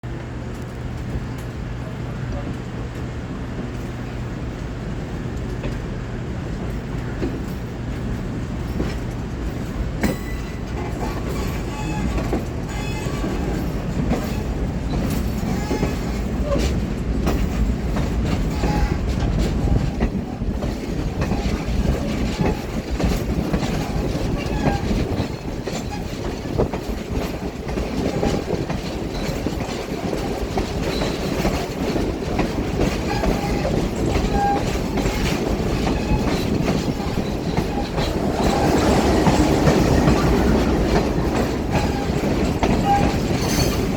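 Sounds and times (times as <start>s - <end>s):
train wheels clicking over rail joints: 3.0s - 43.9s
train wheel squeals: 6.8s - 43.9s.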